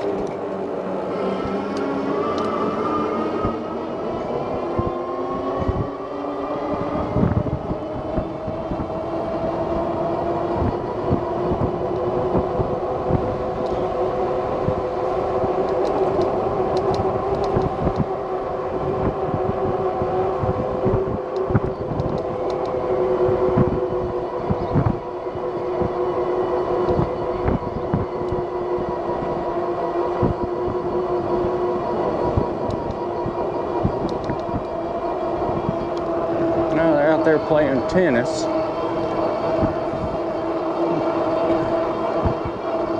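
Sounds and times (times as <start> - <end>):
road rumble: 0.0 - 42.9
wind buffeting microphone: 0.0 - 42.9.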